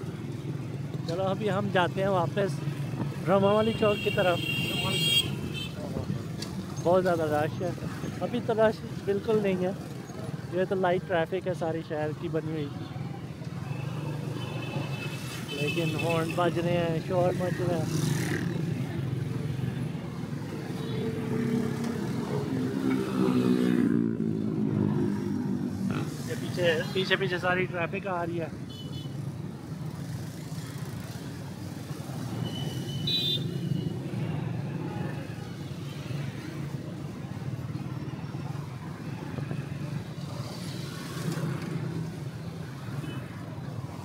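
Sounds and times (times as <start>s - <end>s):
street traffic: 0.0s - 44.0s.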